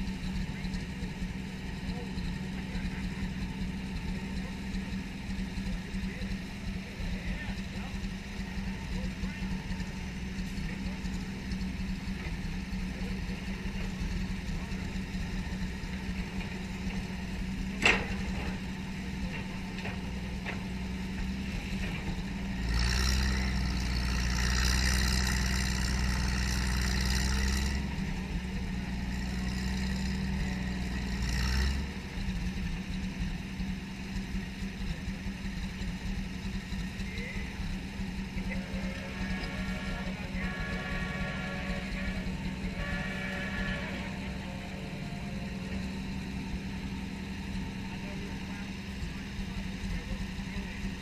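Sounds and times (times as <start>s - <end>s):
heavy-equipment engine idling: 0.0s - 51.0s.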